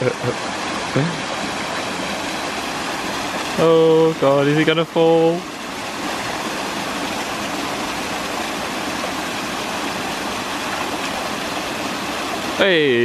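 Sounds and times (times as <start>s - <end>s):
waterfall and stream rushing: 0.0s - 13.0s.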